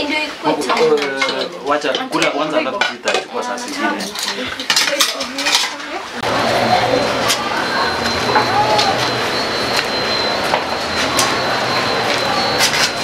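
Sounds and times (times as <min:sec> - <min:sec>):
voices talking: 0:00.0 - 0:13.0
utensils clinking on plates: 0:00.5 - 0:13.0.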